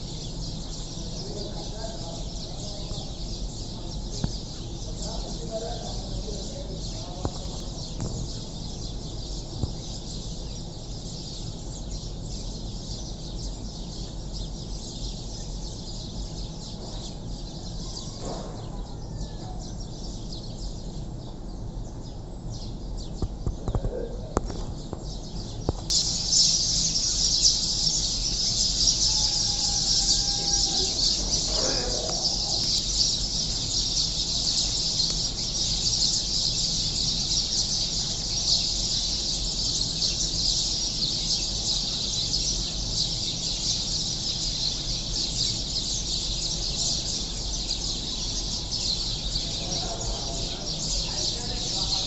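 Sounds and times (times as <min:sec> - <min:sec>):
lower bird call: 0:00.0 - 0:21.1, 0:23.2 - 0:51.4
sparrows chirping: 0:00.0 - 0:52.0.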